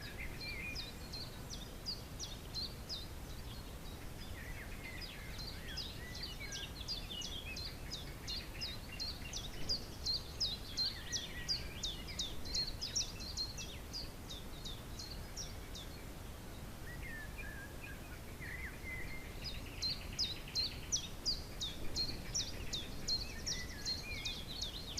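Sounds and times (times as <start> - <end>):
birds twittering: 0.0 - 24.9
songbirds chirping: 0.0 - 24.9
wind rumble on microphone: 0.0 - 24.9.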